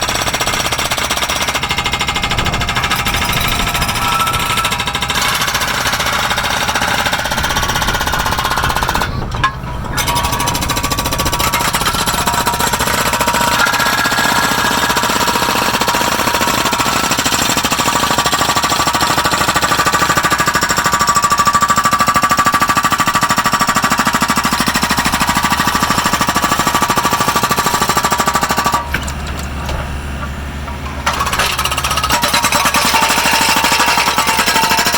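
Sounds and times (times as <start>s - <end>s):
diesel engines running: 0.0s - 34.9s
hydraulic breaker hammering rock: 0.0s - 34.9s.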